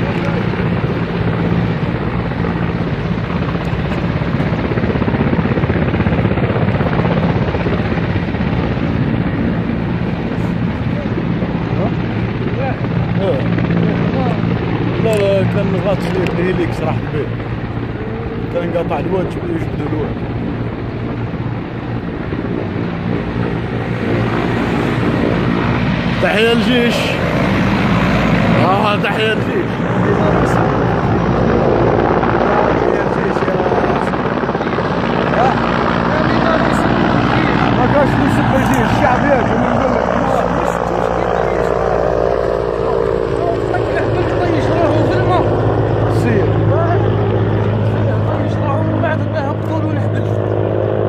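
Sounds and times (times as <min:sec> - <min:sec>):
helicopter rotor beating: 0:00.0 - 0:51.0.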